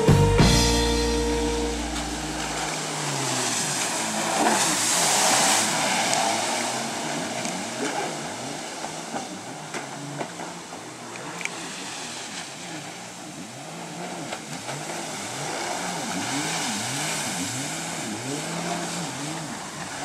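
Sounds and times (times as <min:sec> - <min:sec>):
jet ski engine passing: 0:00.0 - 0:20.0
rush of water spray: 0:01.0 - 0:20.0.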